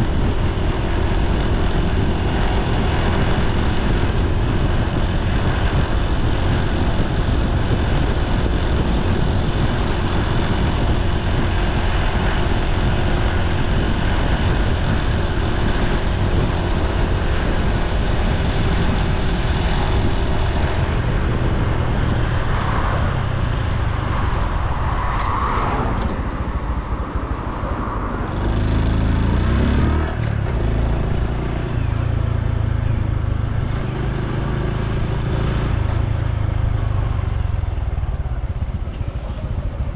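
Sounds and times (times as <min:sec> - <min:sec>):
motorcycle engine running: 0:00.0 - 0:25.0, 0:26.1 - 0:39.9
road noise: 0:00.0 - 0:39.9.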